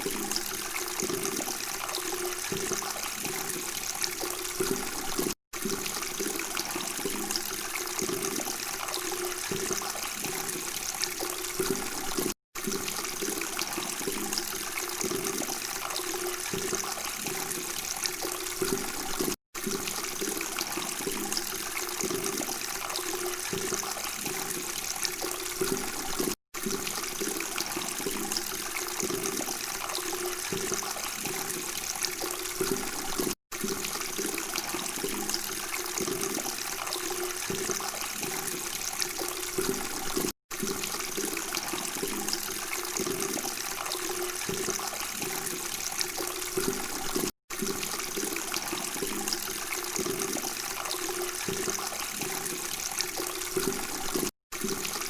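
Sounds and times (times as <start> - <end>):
water babbling and trickling: 0.0 - 55.0.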